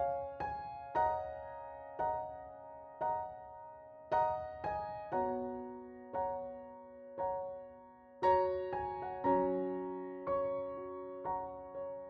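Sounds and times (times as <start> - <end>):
gentle piano chords: 0.0 - 12.0.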